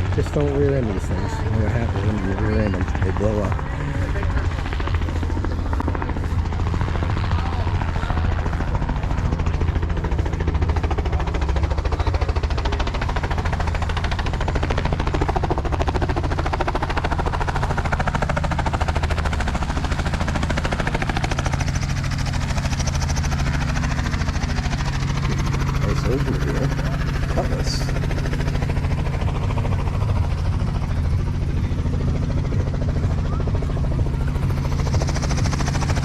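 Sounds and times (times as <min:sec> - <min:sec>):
helicopter engine drone: 0:00.0 - 0:36.0
helicopter rotor pulse: 0:00.0 - 0:36.0.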